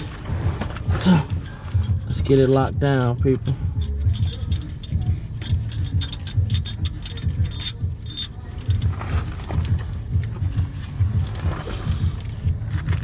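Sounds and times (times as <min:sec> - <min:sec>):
low rhythmic thumping: 0:00.0 - 0:13.0
metal clamp hardware clinking: 0:00.8 - 0:12.4.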